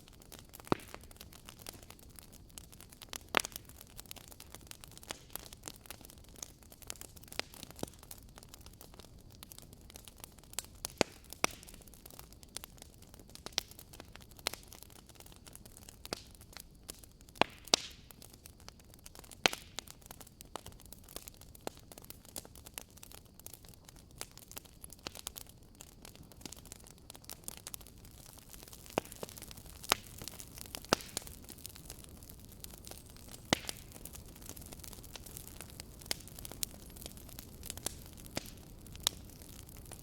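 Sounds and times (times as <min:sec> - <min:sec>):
campfire crackling: 0:00.0 - 0:40.0.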